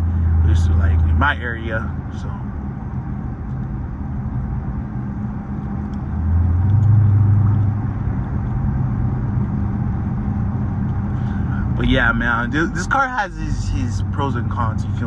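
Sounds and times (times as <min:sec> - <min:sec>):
car engine droning while driving: 0:00.0 - 0:15.0.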